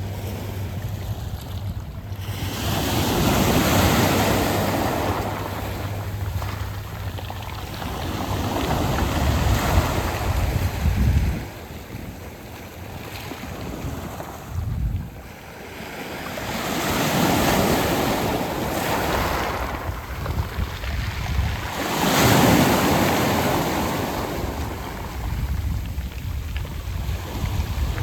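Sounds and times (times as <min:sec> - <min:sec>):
wind buffeting microphone: 0:00.0 - 0:15.7, 0:16.4 - 0:28.0
waves washing over pebbles: 0:00.0 - 0:28.0.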